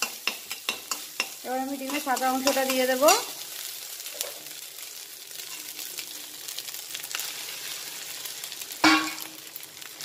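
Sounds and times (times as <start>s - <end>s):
rice sizzling in oil: 0.0s - 10.0s.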